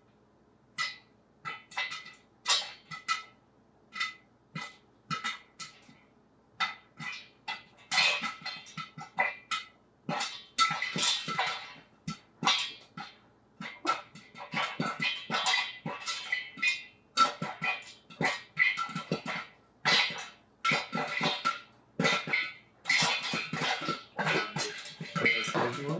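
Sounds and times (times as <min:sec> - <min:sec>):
popcorn popping in a pot: 0:00.7 - 0:25.9.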